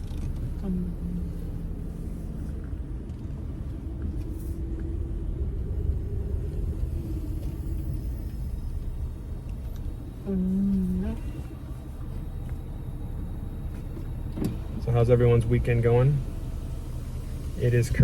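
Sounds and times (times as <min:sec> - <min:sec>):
car engine idling: 0:00.0 - 0:18.0
steady pitched hum: 0:00.5 - 0:18.0.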